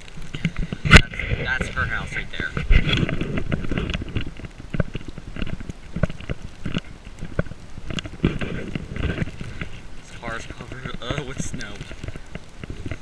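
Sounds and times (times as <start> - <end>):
low microphone rumble: 0.0 - 13.0.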